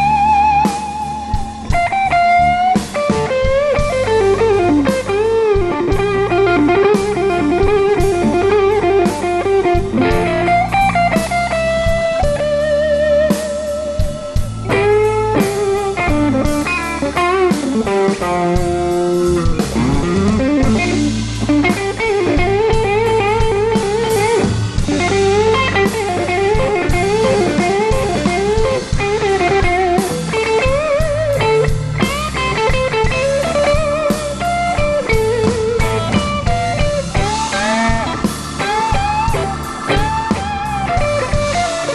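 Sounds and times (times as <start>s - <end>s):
blues band playing: 0.0s - 41.9s
electric guitar bending notes: 0.0s - 41.9s.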